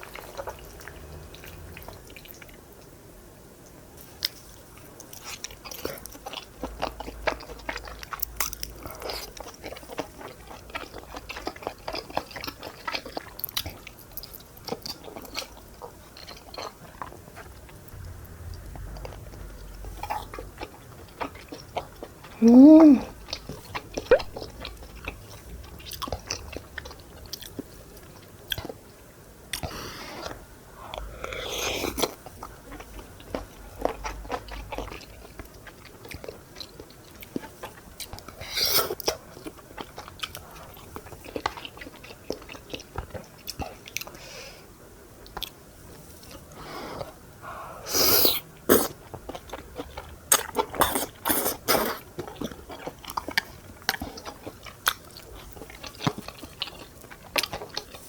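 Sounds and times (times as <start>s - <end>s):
wet chewing and biting: 0.0s - 2.6s, 5.0s - 28.8s, 29.5s - 44.2s, 48.0s - 58.0s.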